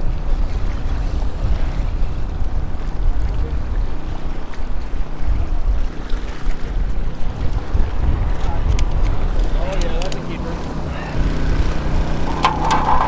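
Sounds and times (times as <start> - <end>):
waves washing against rocks: 0.0 - 13.0
wind buffeting microphone: 0.0 - 13.0.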